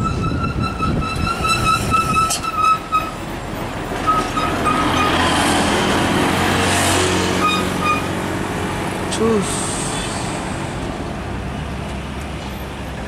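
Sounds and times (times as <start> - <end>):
diesel truck engine humming: 0.0 - 13.0
road and tyre noise: 0.0 - 13.0.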